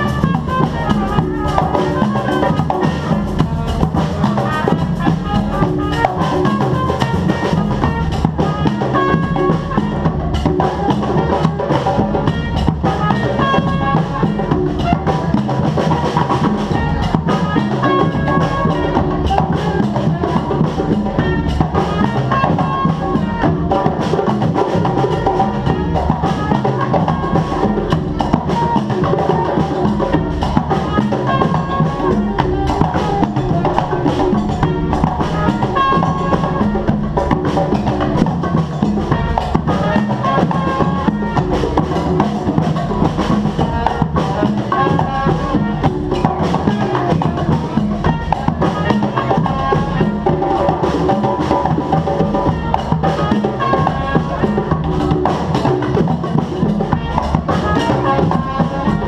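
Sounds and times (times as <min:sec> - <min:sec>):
drums and percussion beat: 0:00.0 - 0:59.0
live band music: 0:00.0 - 0:59.0.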